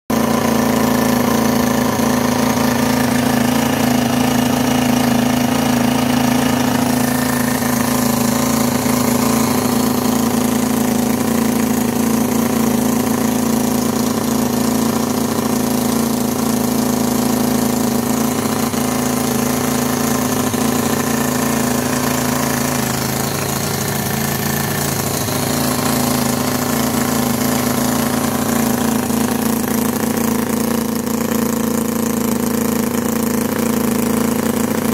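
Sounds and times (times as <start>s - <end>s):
model engine running steadily: 0.1s - 34.9s.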